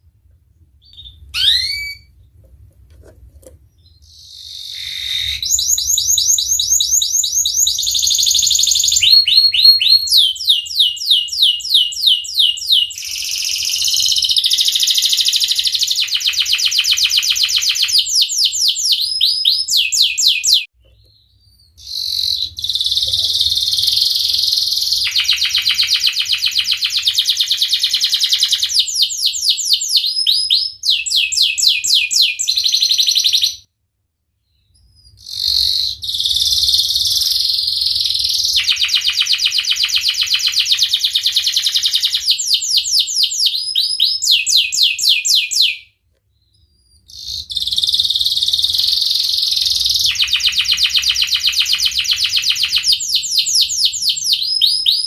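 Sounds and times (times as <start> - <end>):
canary singing rolling trills: 0.6 - 33.7, 34.4 - 55.0.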